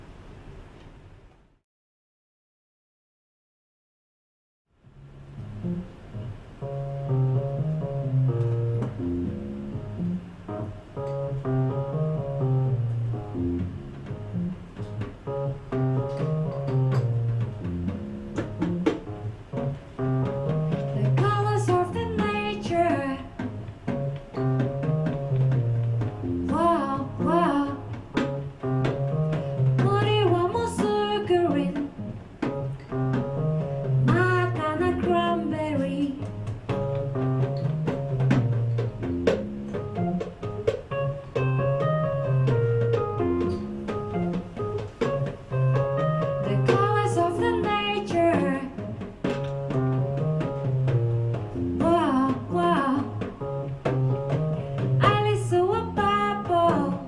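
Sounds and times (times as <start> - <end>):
drums: 4.8 - 57.0
piano: 4.8 - 57.0.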